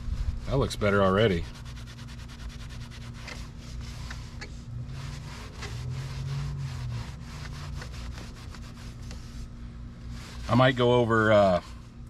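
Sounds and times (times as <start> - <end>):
low hum: 0.0 - 12.0
towel scrubbing fabric: 0.2 - 11.9.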